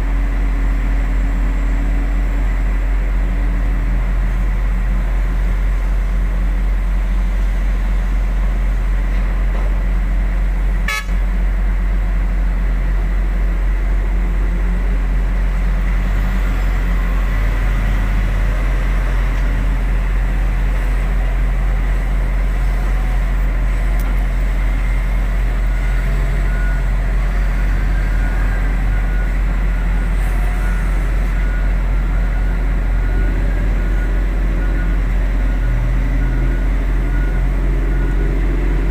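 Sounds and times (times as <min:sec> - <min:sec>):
heavy diesel engines droning: 0:00.0 - 0:38.9.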